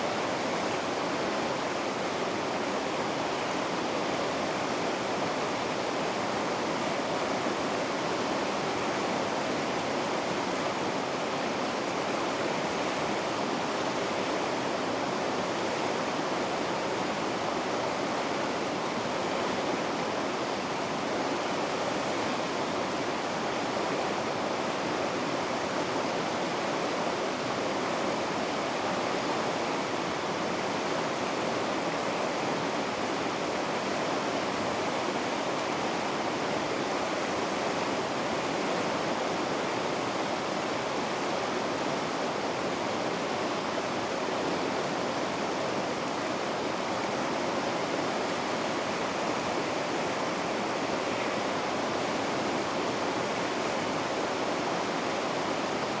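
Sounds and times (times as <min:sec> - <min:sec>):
river rapids roaring: 0:00.0 - 0:56.0.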